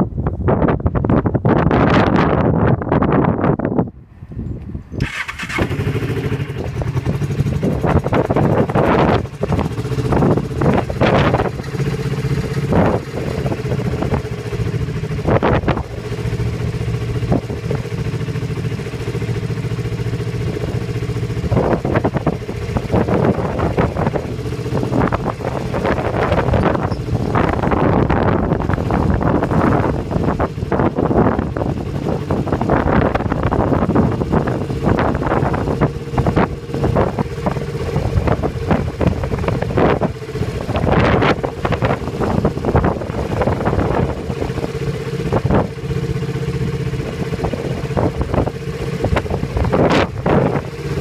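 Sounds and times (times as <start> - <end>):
motorcycle engine starting and idling: 4.2 - 51.0.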